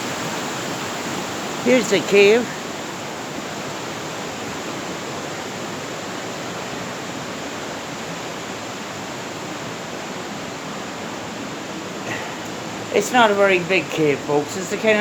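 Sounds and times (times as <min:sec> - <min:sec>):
fast-flowing river water: 0:00.0 - 0:15.0.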